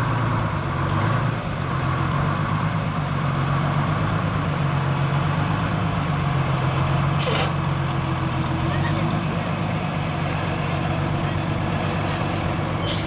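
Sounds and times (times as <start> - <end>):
fire truck engines idling: 0.0 - 13.0.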